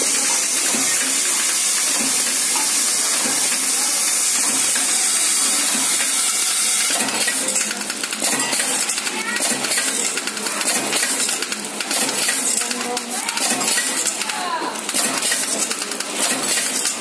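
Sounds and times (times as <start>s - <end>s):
packaging machine hissing: 0.0s - 17.0s.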